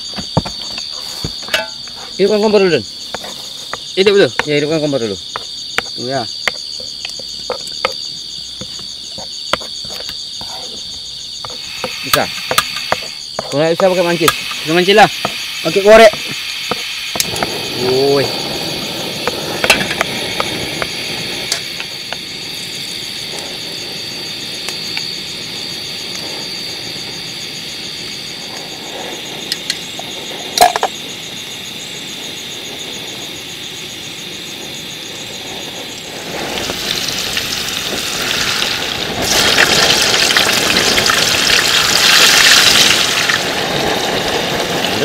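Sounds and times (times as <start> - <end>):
food sizzling in hot oil: 0.0 - 45.0.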